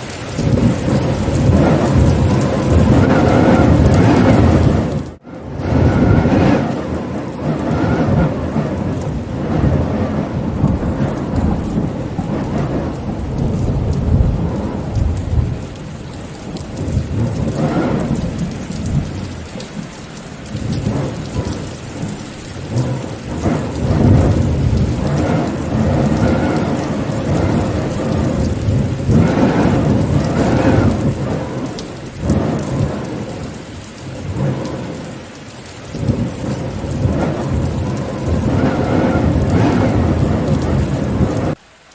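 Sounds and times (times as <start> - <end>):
deep rumbling thunder: 0.0 - 41.6
steady rain: 0.0 - 41.9
wind: 0.0 - 41.9.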